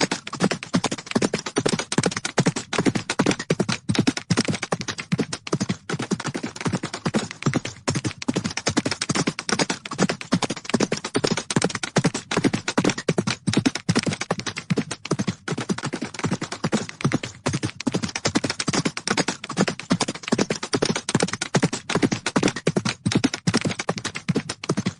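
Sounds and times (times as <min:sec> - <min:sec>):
horse hooves galloping: 0:00.0 - 0:24.9.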